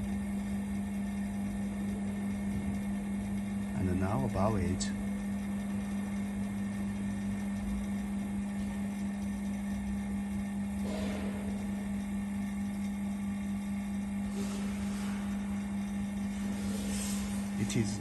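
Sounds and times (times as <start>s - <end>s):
vacuum pump humming: 0.0s - 18.0s.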